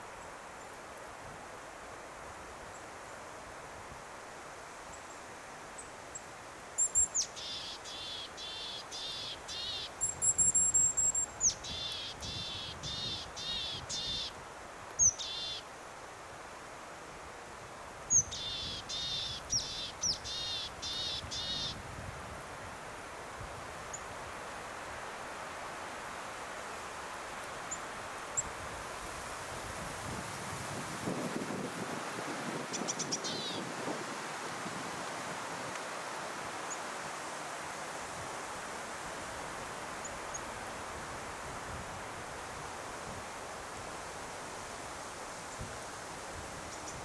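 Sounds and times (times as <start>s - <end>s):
wind and rustling leaves: 0.0s - 47.0s.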